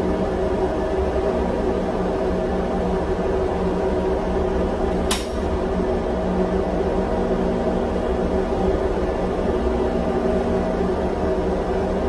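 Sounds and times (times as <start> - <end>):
engine room machinery hum: 0.0 - 12.0.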